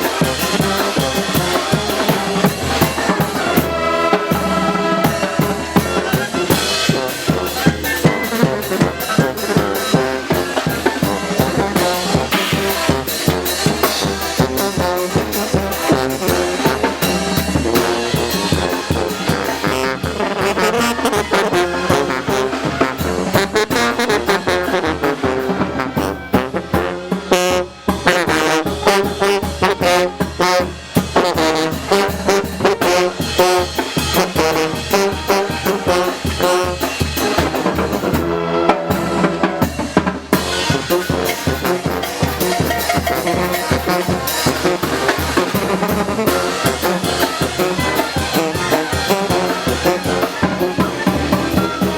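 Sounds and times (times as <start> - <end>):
steady drum beat: 0.0 - 51.9
trombones and trumpets: 0.0 - 51.9.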